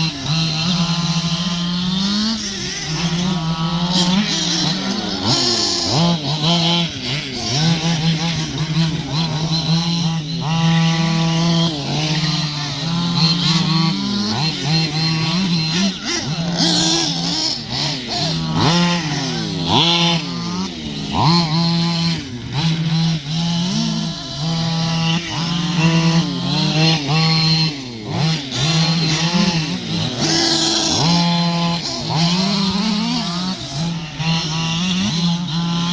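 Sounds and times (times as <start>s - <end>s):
model car engines revving: 0.0s - 35.9s.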